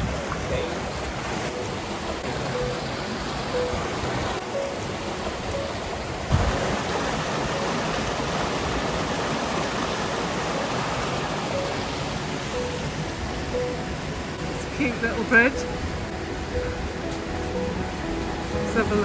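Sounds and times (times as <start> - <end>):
fast stream and waterfalls rushing: 0.0 - 19.0.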